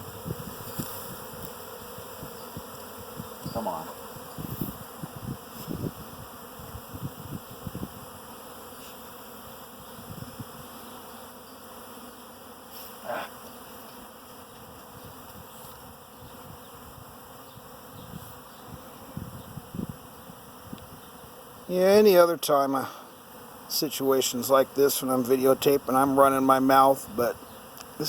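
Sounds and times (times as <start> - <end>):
bee swarm buzzing: 0.0 - 28.0.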